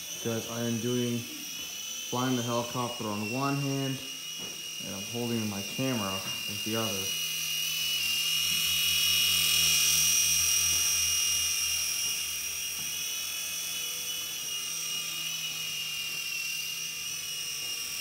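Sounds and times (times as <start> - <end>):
toy helicopter rotor whine: 0.0 - 18.0.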